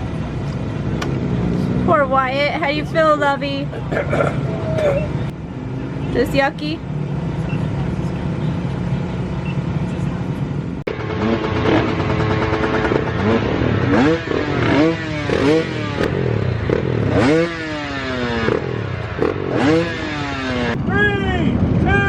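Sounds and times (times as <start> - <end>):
dirt bike engines revving: 0.0 - 22.0
low engine hum: 0.0 - 22.0.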